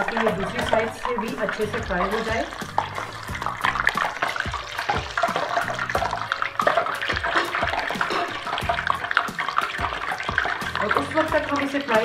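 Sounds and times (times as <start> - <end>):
deep-frying in hot oil: 0.0 - 12.0.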